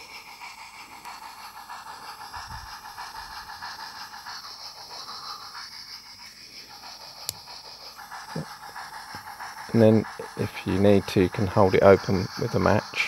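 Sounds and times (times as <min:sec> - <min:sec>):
tinny steam locomotive chuffing: 0:00.0 - 0:13.0.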